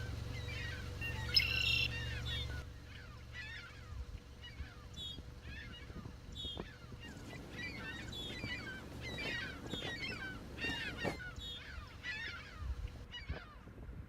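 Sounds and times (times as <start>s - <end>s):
geese honking: 0.0s - 13.7s.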